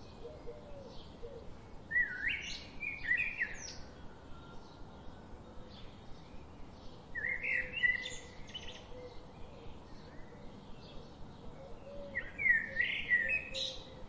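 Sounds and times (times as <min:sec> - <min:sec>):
bird singing: 0:00.0 - 0:14.0
faint bird chirps: 0:00.0 - 0:14.0.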